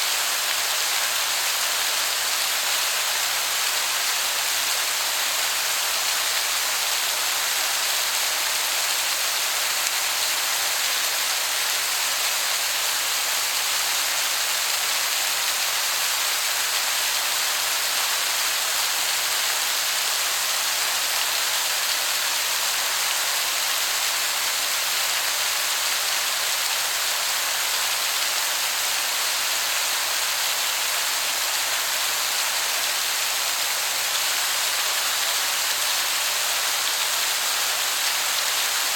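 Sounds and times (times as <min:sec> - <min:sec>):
waterfall hiss: 0:00.0 - 0:38.9.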